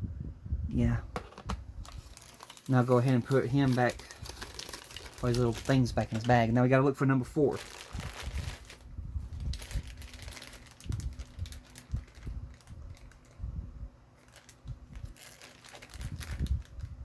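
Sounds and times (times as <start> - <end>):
plastic bags crinkling: 1.8 - 13.4, 14.2 - 17.0.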